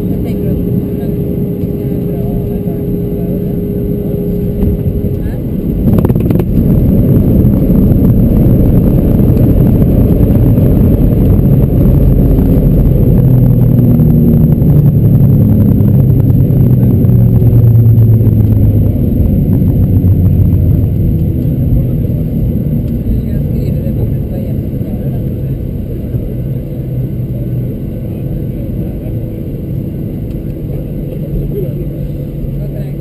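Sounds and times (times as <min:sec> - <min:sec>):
engine hum: 0:00.0 - 0:33.0
jet engines and wheels rumbling: 0:00.0 - 0:33.0.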